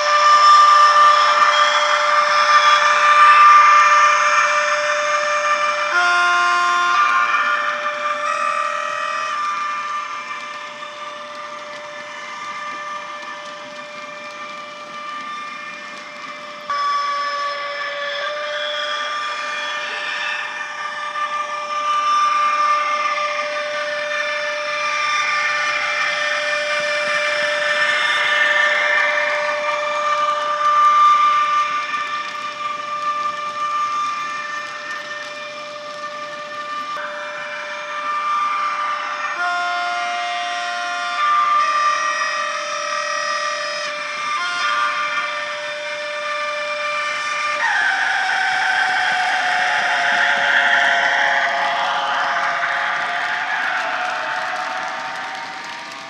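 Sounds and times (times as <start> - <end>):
electric locomotive whine from speaker: 0.0 - 56.0
faint hiss: 0.0 - 56.0.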